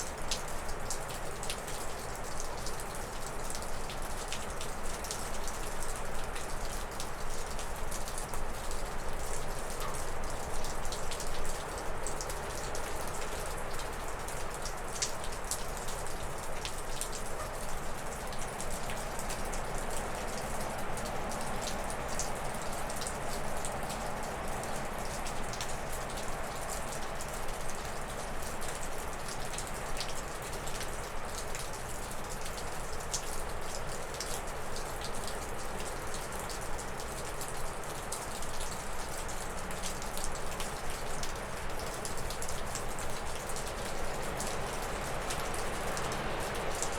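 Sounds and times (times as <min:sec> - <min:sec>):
meltwater dripping off roof: 0:00.0 - 0:46.9.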